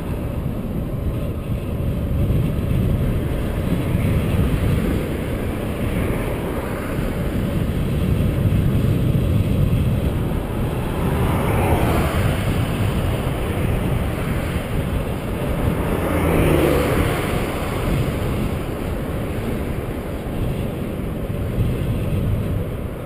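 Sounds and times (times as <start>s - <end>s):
passing traffic: 0.0s - 23.0s
wind rushing over microphone: 0.0s - 23.0s.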